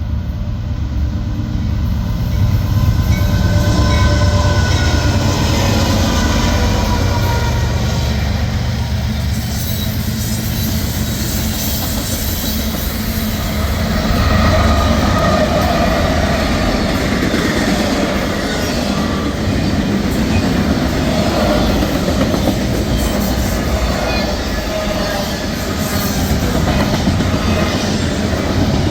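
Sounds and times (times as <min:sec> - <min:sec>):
train wheels rumbling on rail: 0:00.0 - 0:28.9
wheels squealing: 0:02.2 - 0:28.9.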